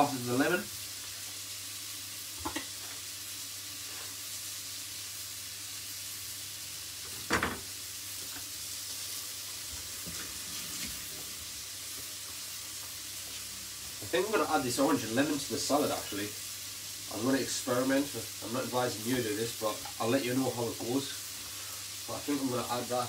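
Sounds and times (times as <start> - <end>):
onions sizzling in a pot: 0.0 - 23.0.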